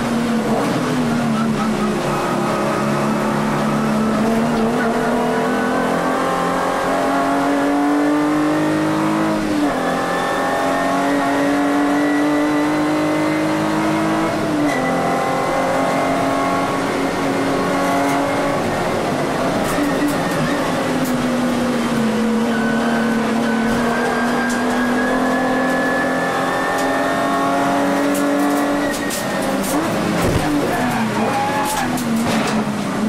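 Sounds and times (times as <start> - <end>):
race car engine accelerating: 0.0 - 33.0.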